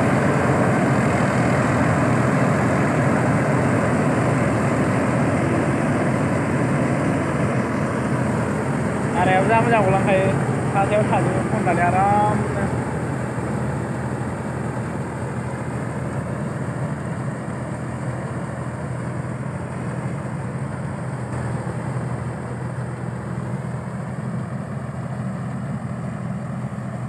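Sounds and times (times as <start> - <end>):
combine harvester engine hum: 0.0 - 27.0.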